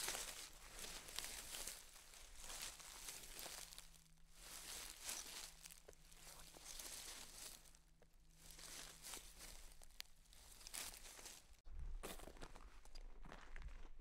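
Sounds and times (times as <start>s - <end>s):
footsteps crunching on dry trail: 0.0s - 14.0s.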